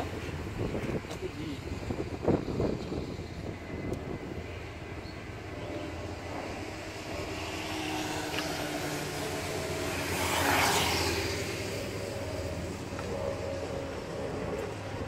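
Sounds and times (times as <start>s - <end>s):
car engine hum: 0.0s - 15.0s
road noise inside car: 0.0s - 15.0s.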